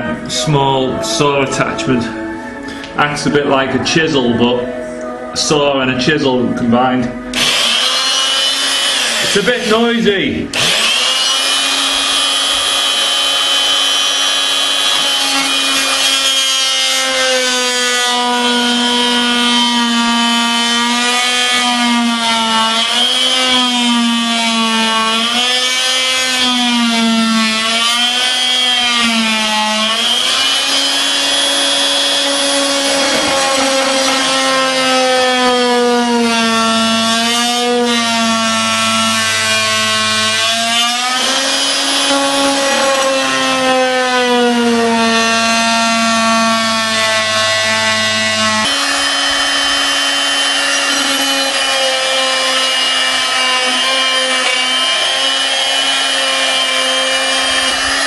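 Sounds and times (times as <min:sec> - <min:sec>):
oscillating multi-tool cutting wood: 0:07.3 - 0:58.0.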